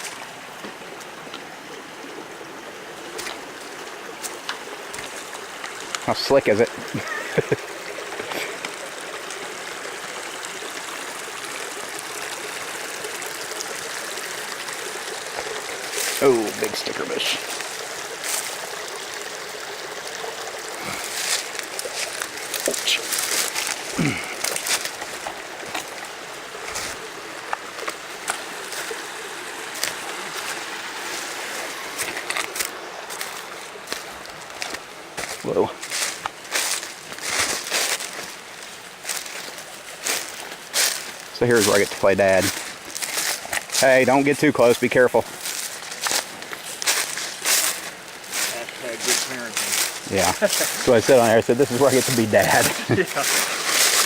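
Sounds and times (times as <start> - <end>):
creek rushing over rocks: 0.0 - 54.0.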